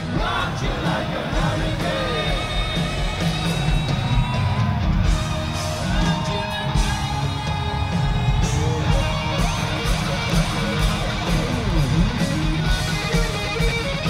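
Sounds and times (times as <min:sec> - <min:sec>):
live hard rock band: 0:00.0 - 0:14.0.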